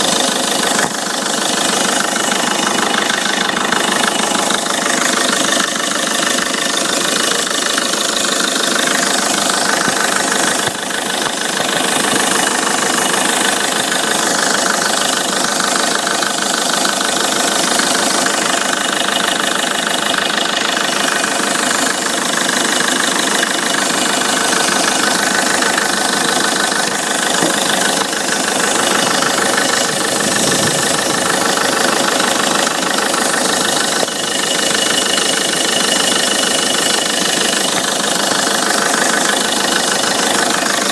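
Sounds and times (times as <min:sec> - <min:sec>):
abnormal engine noise: 0:00.0 - 0:40.9
diesel engine idling: 0:00.0 - 0:40.9.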